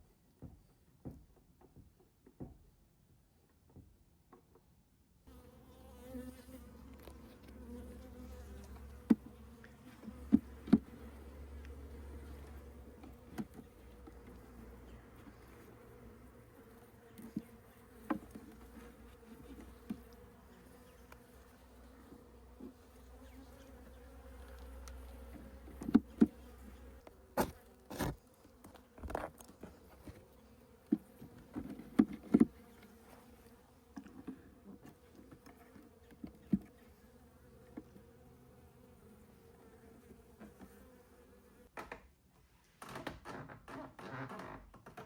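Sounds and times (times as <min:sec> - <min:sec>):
bees buzzing in hive: 0:05.3 - 0:41.7.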